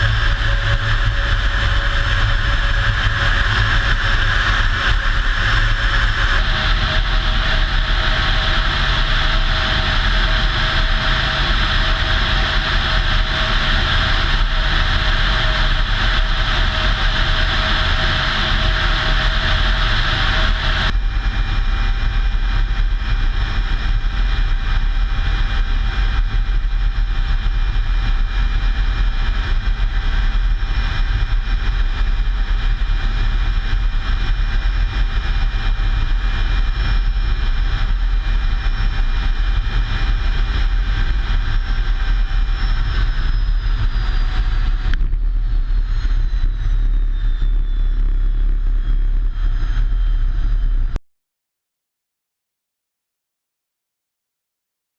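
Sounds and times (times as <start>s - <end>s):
aircraft engines rumbling: 0.0s - 51.0s
high whining engine tones: 0.0s - 51.0s.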